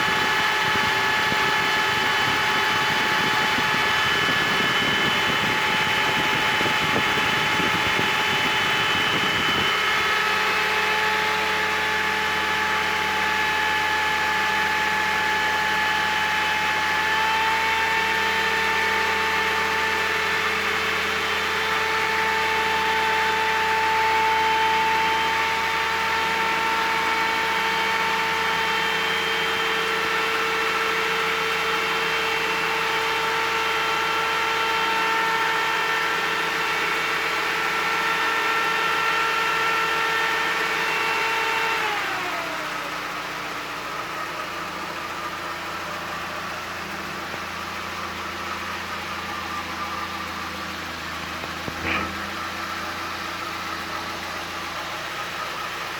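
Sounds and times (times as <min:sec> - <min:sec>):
petrol engine running: 0:00.0 - 0:55.9.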